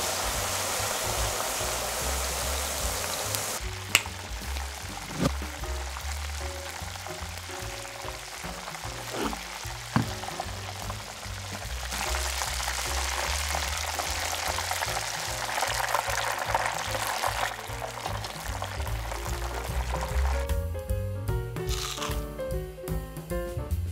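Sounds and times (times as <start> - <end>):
deep-frying crackling sizzle: 0.0 - 22.6
background music with bass line: 0.0 - 23.9.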